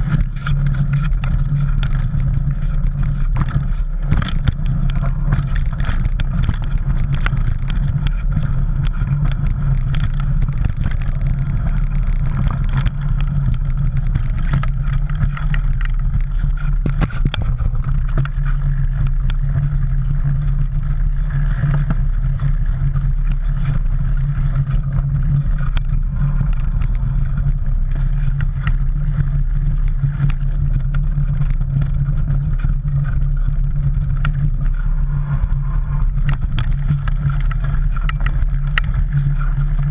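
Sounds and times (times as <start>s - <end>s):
bike clicks and rattles: 0.0s - 39.9s
wind rumble on microphone: 0.0s - 39.9s.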